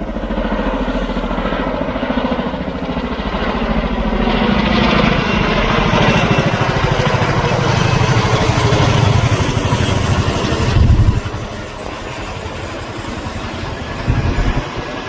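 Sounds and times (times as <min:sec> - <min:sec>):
helicopter rotors thudding: 0:00.0 - 0:15.0.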